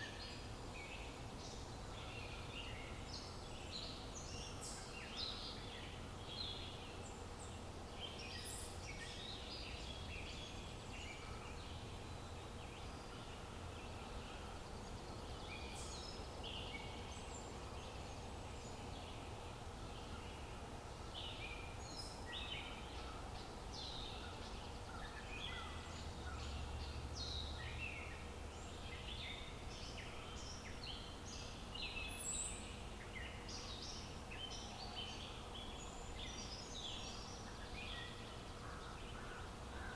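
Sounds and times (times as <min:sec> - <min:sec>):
low outdoor background noise: 0:00.0 - 0:39.9
songbirds chirping and singing: 0:00.0 - 0:39.9.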